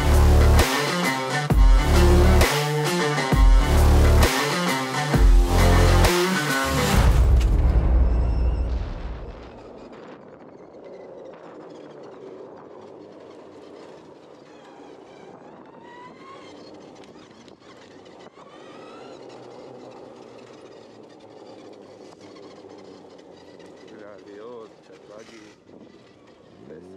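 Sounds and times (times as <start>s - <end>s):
electric motor whine: 0.0s - 26.9s
tyres and wind rumble: 0.0s - 26.9s.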